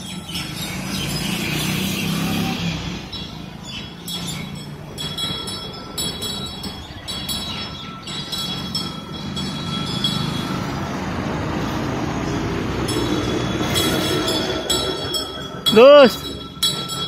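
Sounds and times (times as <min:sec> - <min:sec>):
vehicles passing: 0:00.0 - 0:17.0
light bell-like chimes: 0:03.1 - 0:17.0.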